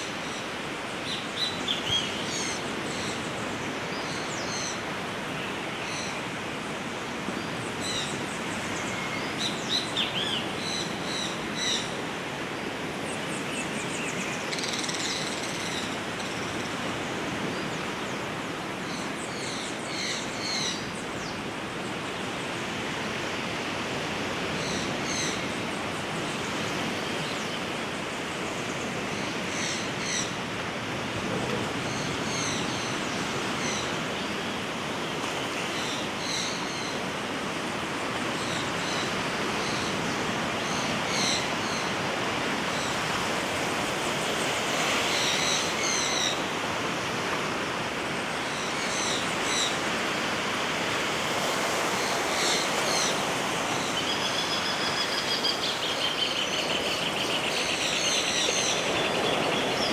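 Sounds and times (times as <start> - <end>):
ocean surf: 0.0 - 59.9.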